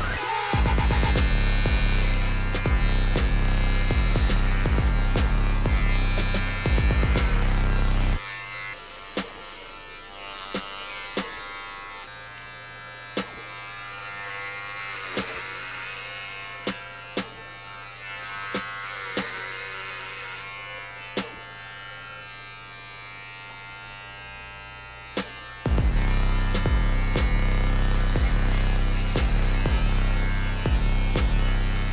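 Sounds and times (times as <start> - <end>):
electric hair clippers buzzing: 0.0 - 31.9.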